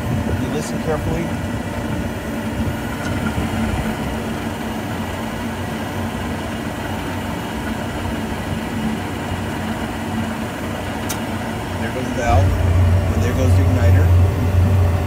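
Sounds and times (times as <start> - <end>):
pool heater blower and pump humming: 0.0 - 15.0.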